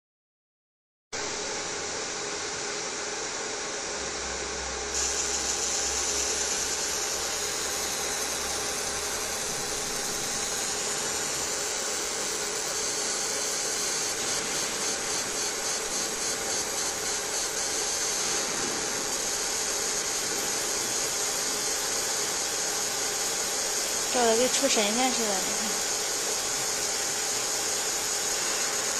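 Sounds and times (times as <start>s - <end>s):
laser machine high whine: 1.2s - 28.9s
steady fan hiss: 1.2s - 28.9s.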